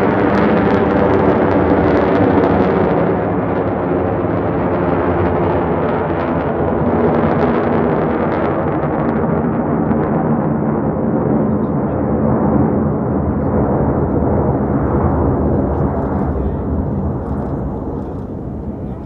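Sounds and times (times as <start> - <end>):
jets passing overhead: 0.0 - 19.0.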